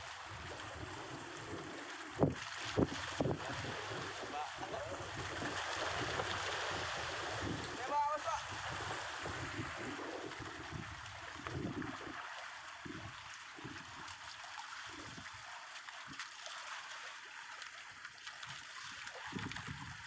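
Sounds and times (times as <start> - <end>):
seawater lapping and gurgling: 0.0 - 20.0.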